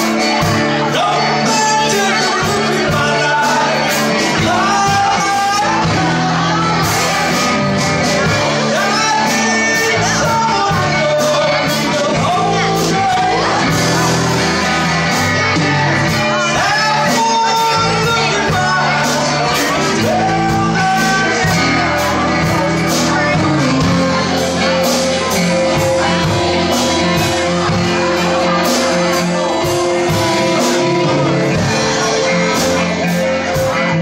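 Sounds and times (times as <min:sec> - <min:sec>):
amplified electric guitar: 0:00.0 - 0:34.0
man singing into a microphone: 0:00.0 - 0:34.0.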